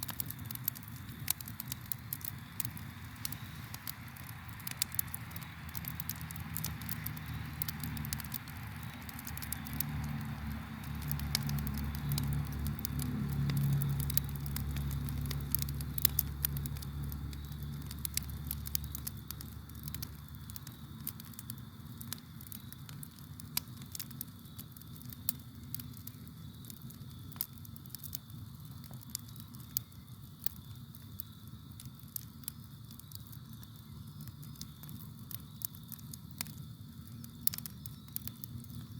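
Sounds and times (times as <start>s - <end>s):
campfire crackling and popping: 0.0s - 38.9s
crickets chirring: 0.0s - 38.9s
low rumble of flames: 0.0s - 38.9s.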